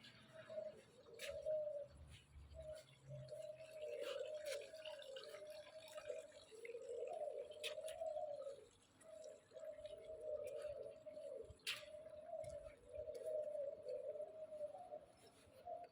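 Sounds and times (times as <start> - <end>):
pigeons cooing: 0.4 - 15.9.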